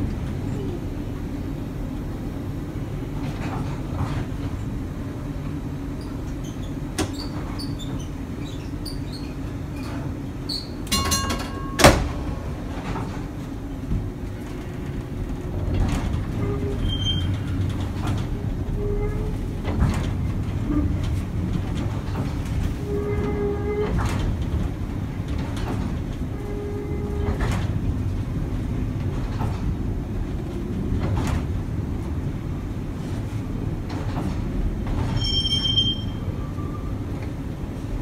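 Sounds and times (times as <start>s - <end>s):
streetcar motors and wheels rumbling: 0.0s - 38.0s.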